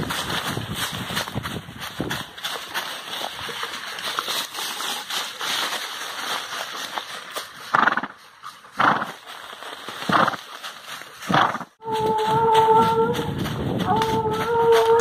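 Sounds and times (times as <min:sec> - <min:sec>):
footsteps crunching through dry leaves: 0:00.0 - 0:15.0.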